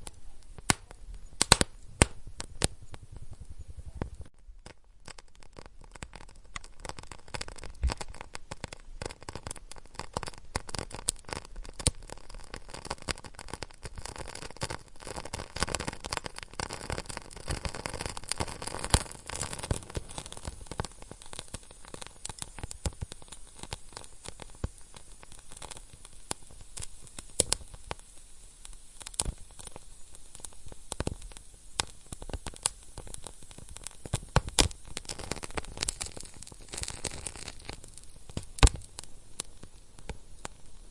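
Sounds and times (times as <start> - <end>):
fire crackling: 0.0 - 40.9
fire pops: 0.0 - 40.9.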